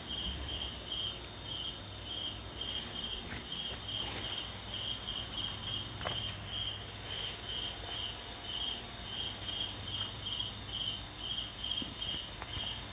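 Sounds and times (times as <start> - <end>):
cricket chirping: 0.0 - 12.9.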